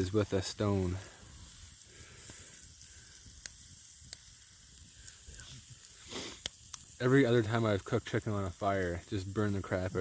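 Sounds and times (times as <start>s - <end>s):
meat sizzling on hot rock: 0.0s - 10.0s.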